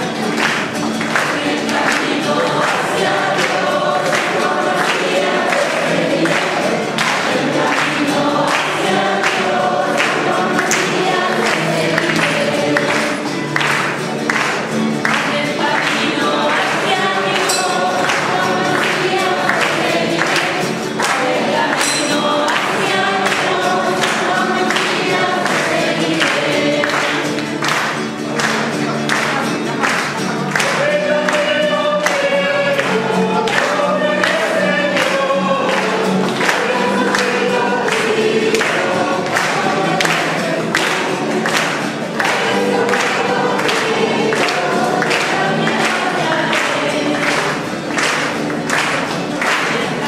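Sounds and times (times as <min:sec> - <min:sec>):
choir singing a hymn: 0:00.0 - 0:29.3, 0:29.9 - 0:50.0.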